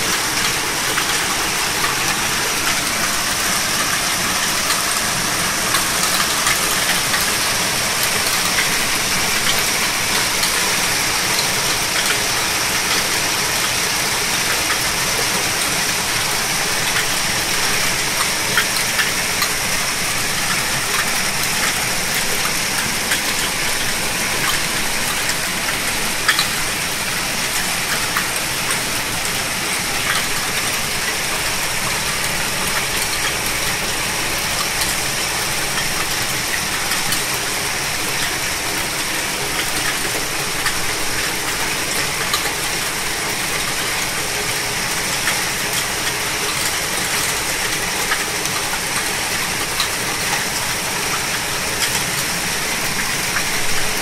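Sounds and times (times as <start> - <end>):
hailstones ticking: 0.1 - 54.0.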